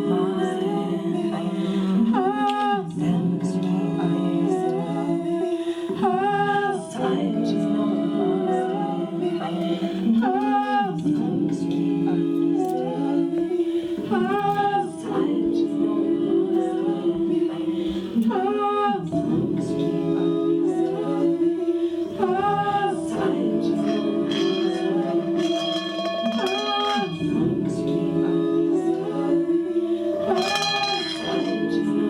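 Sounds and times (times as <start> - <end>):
wordless a cappella singing: 0.0 - 32.0.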